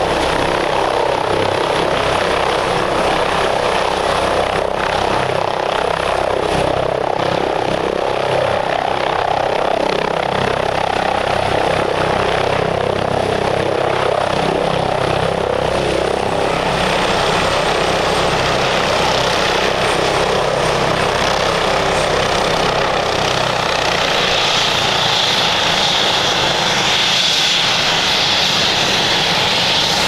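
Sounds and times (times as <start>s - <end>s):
helicopter rotor and turbine noise: 0.0s - 30.0s
high turbine whine: 0.0s - 30.0s.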